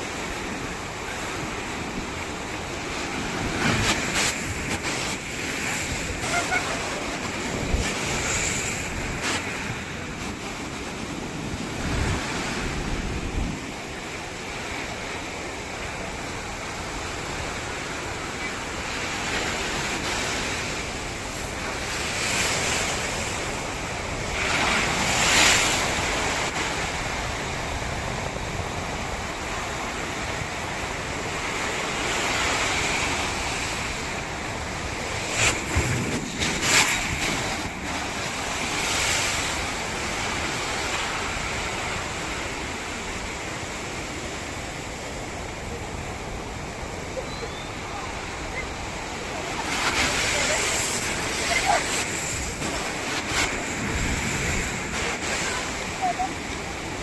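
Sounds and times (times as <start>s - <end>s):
ocean waves breaking on beach: 0.0s - 57.0s
wind buffeting microphone: 0.0s - 57.0s.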